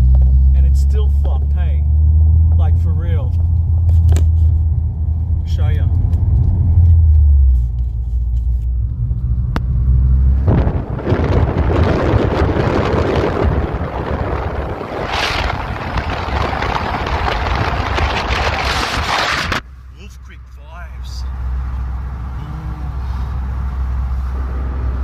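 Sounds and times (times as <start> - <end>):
wind and road rushing noise: 0.0 - 19.7, 21.3 - 25.0
car engine and road rumble: 0.0 - 25.0.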